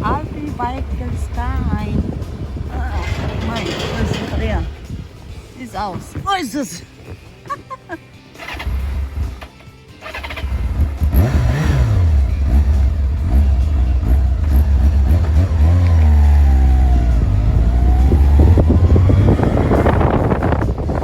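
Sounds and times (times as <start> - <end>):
motorcycle engine revving: 0.0 - 5.4, 8.4 - 21.0.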